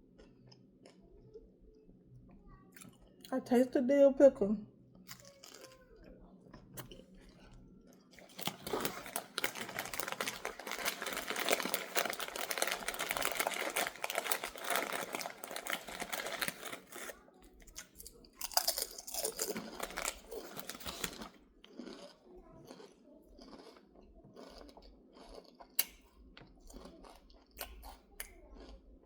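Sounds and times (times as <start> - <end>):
crunching and chewing chips: 2.7 - 3.3, 5.0 - 29.0.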